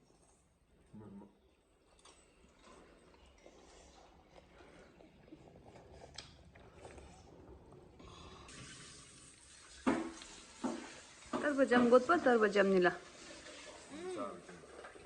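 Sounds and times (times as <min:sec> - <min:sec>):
faint running water: 0:00.0 - 0:15.0.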